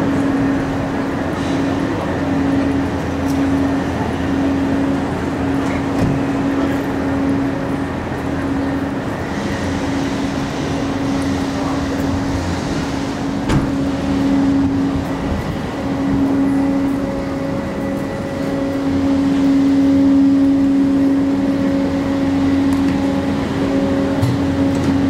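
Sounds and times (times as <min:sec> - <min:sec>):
train humming and rumbling: 0:00.0 - 0:25.0.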